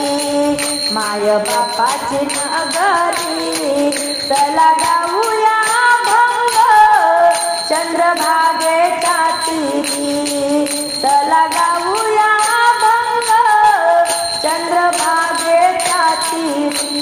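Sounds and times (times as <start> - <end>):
jingling percussion: 0.0 - 17.0.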